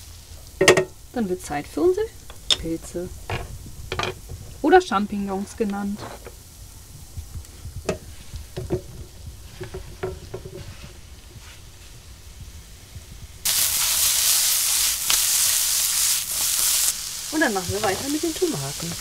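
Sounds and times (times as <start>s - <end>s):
mushrooms sizzling in frying pan: 0.0s - 19.0s.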